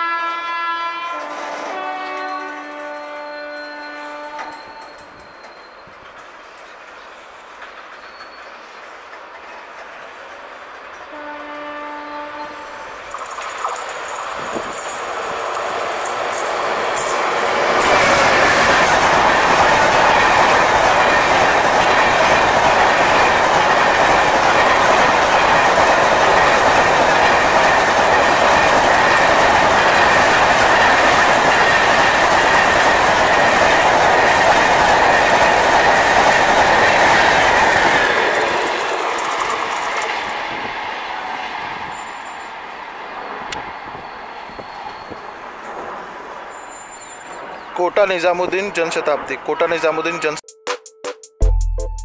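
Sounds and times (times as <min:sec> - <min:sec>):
train wheels rolling on rails: 0:01.1 - 0:49.4.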